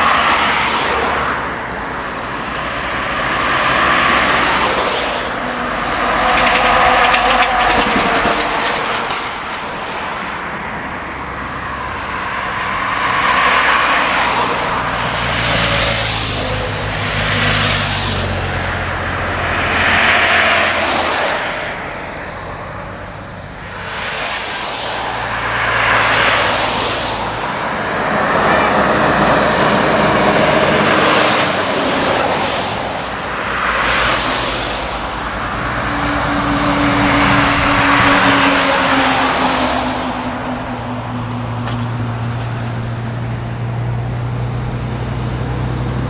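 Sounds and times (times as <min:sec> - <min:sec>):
truck diesel engine drone: 0:00.0 - 0:46.0
vehicles passing on highway: 0:00.0 - 0:46.0.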